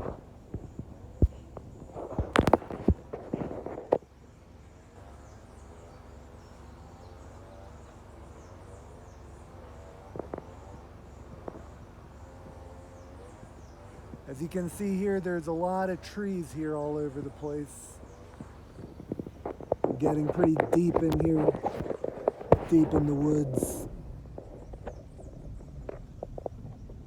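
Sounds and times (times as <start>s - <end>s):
faint insect chirping: 0.0s - 27.0s
vehicle low rumble: 0.0s - 27.0s.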